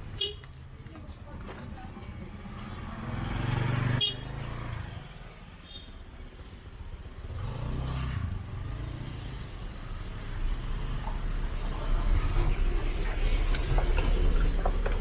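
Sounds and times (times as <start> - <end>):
vehicles passing by: 0.0 - 15.0.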